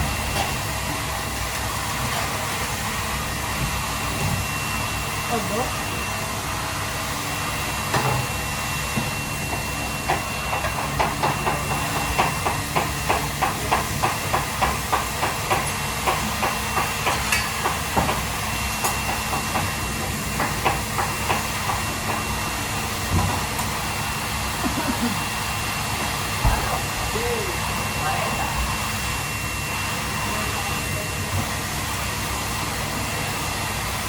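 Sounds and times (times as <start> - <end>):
steady kitchen hiss: 0.0 - 34.0.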